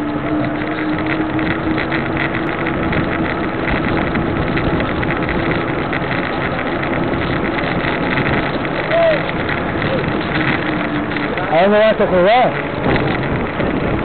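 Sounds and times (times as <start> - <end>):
tyre and road noise: 0.0 - 14.0
wind rushing over microphone: 0.0 - 14.0.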